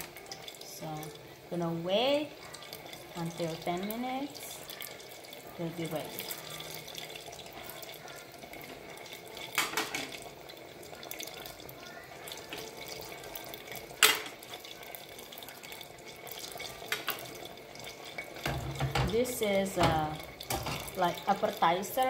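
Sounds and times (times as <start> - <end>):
frying sizzle: 0.0 - 22.0.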